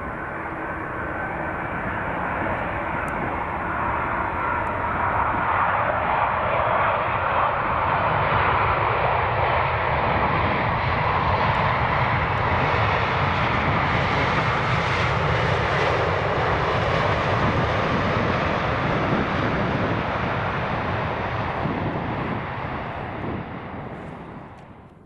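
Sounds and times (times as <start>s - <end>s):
jet airliner engines: 0.0s - 25.0s
wind rumbling on microphone: 0.0s - 25.0s.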